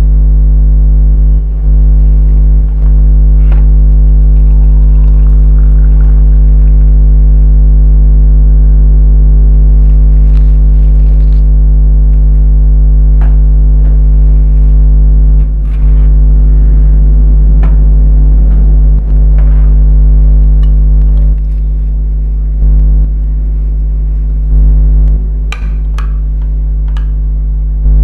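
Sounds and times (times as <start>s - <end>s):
loud electrical hum: 0.0s - 28.0s.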